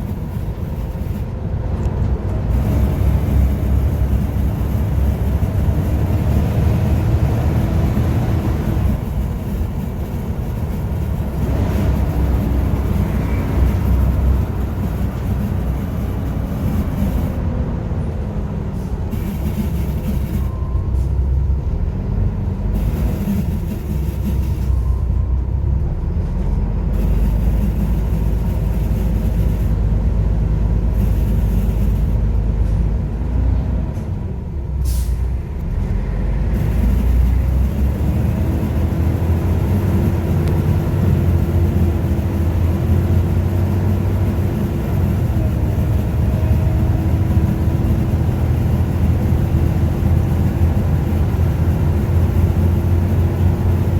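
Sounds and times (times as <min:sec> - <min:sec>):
bus diesel engine under load: 0:00.0 - 0:53.9.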